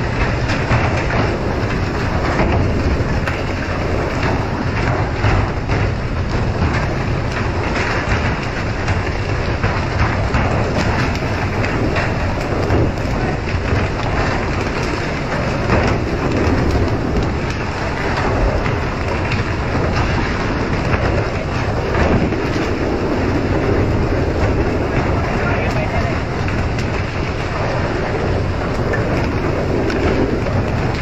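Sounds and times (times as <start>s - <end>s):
low rumble of boat: 0.0s - 31.0s.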